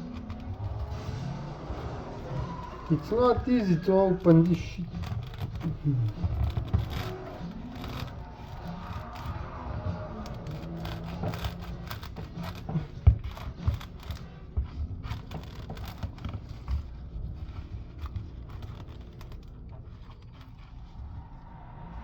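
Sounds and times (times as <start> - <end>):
knife scraping coconut husk: 0.0 - 21.0.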